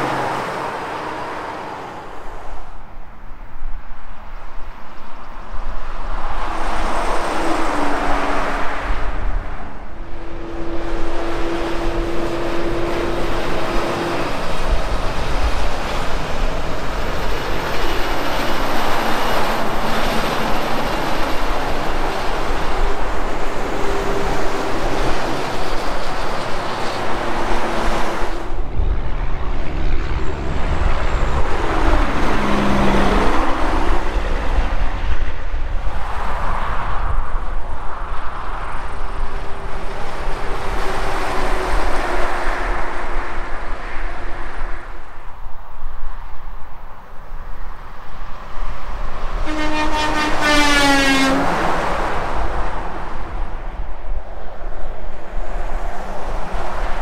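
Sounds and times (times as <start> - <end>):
vehicles passing on highway: 0.0 - 57.0.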